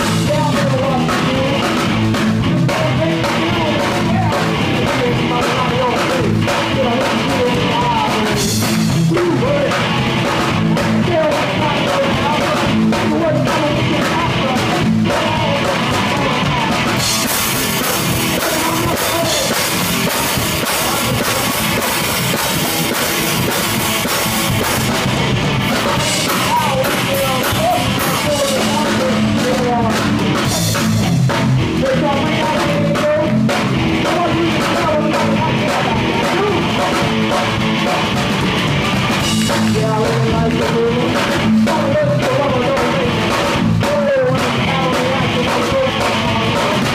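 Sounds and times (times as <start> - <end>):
drum kit: 0.0 - 46.9
guitar: 0.0 - 46.9
sung vocals: 0.0 - 46.9.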